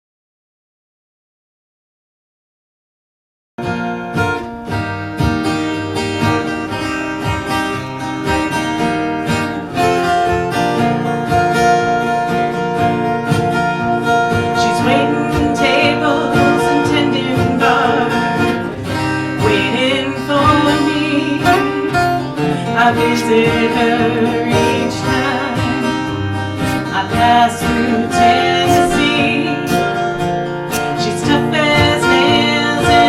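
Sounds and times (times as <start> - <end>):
acoustic guitar strumming: 3.6 - 33.0.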